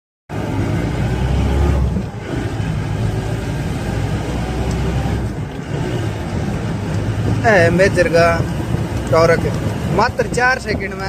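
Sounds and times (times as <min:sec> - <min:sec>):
engine accelerating hard: 0:00.3 - 0:11.0.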